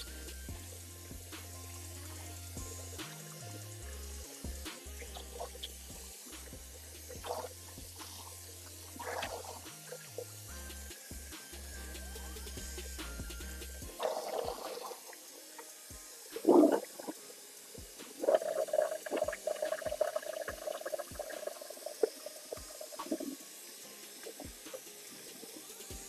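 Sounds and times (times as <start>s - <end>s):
sink drain gurgling: 1.2s - 10.9s, 14.0s - 25.6s.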